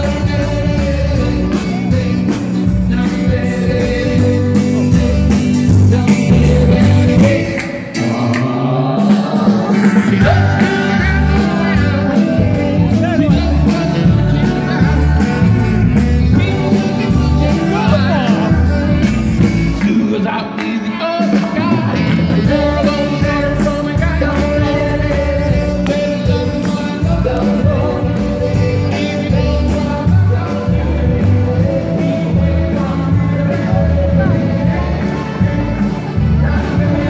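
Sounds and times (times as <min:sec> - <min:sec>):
live band playing dance music: 0:00.0 - 0:37.0
person singing: 0:00.0 - 0:37.0.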